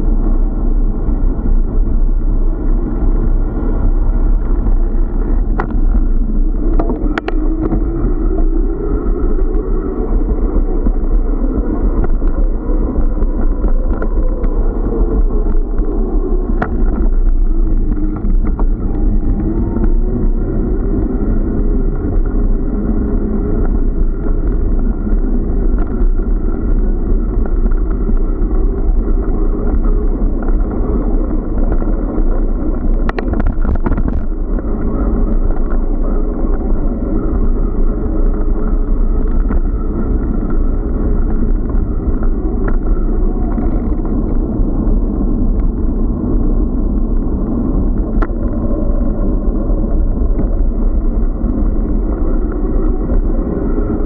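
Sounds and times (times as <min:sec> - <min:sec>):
bicycle tyre rumble: 0:00.0 - 0:54.0
wind buffeting microphone: 0:00.0 - 0:54.0.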